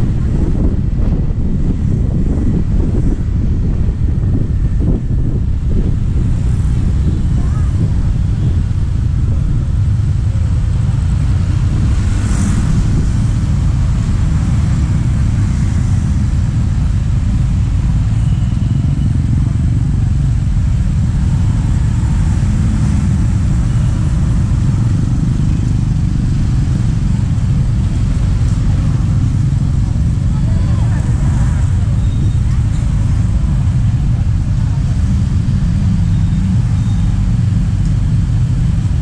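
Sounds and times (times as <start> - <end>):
traffic rumble: 0.0 - 39.0
wind on microphone: 0.0 - 39.0.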